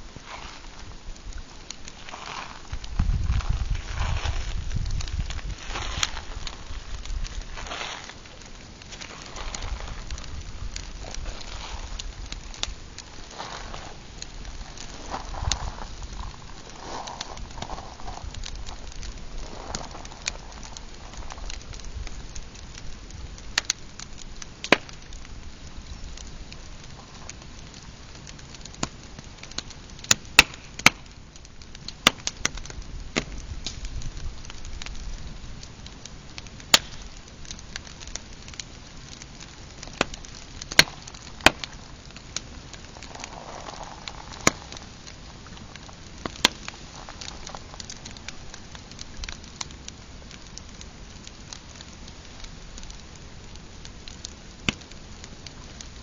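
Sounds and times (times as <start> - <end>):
campfire crackling and popping: 0.0 - 56.0
steady low hiss: 0.0 - 56.0.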